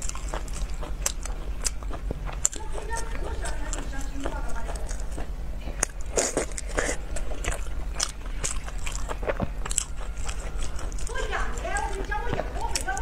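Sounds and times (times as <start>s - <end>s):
close biting and chewing: 0.0s - 13.0s.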